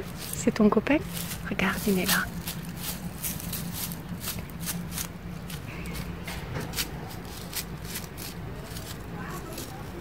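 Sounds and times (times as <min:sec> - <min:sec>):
hay and leaves rustling: 0:00.0 - 0:10.0.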